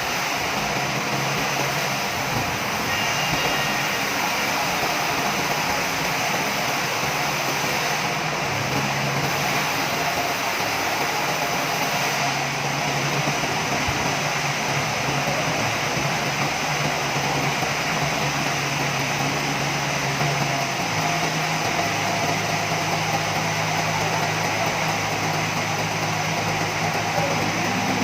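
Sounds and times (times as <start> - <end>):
sawmill machinery drone: 0.0 - 28.0.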